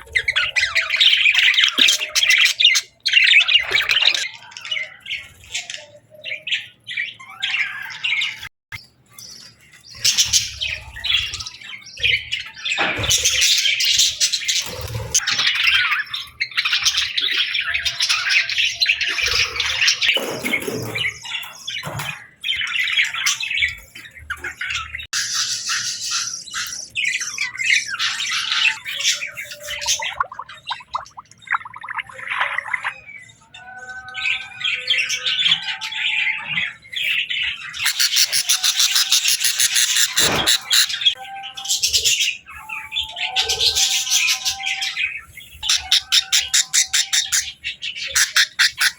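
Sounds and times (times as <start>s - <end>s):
budgerigars chirping and squawking: 0.0s - 48.9s.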